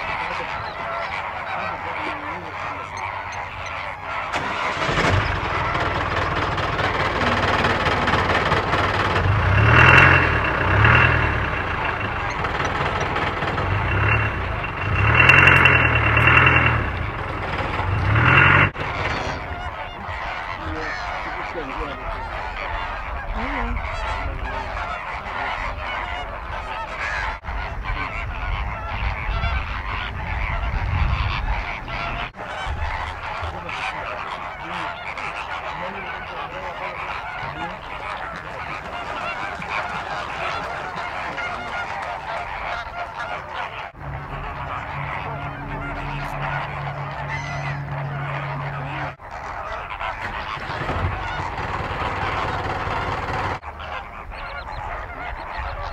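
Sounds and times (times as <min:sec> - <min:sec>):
flamingo flock honking: 0:00.0 - 0:55.9.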